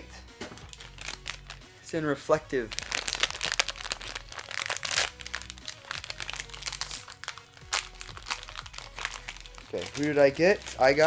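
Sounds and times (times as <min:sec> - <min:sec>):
foil wrapper crinkling: 0:00.6 - 0:01.6, 0:02.6 - 0:11.0.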